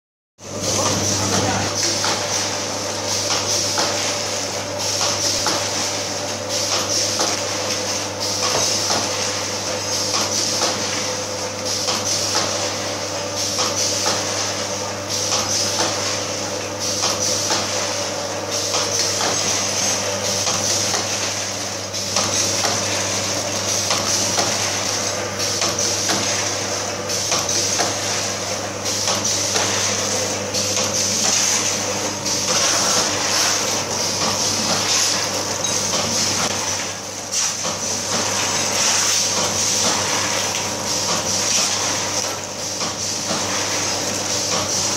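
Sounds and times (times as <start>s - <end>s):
machine hum and hiss: 0.4s - 44.9s.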